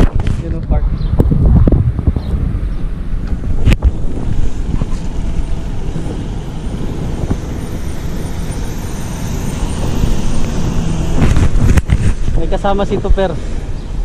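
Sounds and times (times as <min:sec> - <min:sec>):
road traffic noise: 0:00.0 - 0:14.0
wind rumbling on microphone: 0:00.0 - 0:14.0
truck passing: 0:01.3 - 0:14.0.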